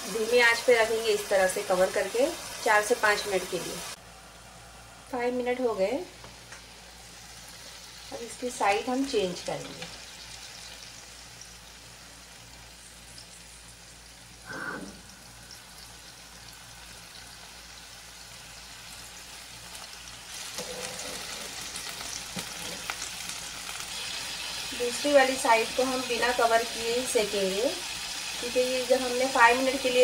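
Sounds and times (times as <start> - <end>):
meat sizzling in a frying pan: 0.0 - 4.0, 6.2 - 14.5, 15.1 - 30.0.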